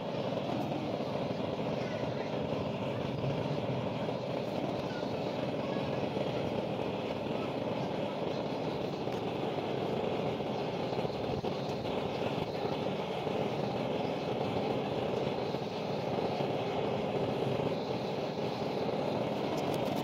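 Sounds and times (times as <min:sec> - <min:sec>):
gas blowtorch burning: 0:00.0 - 0:20.0.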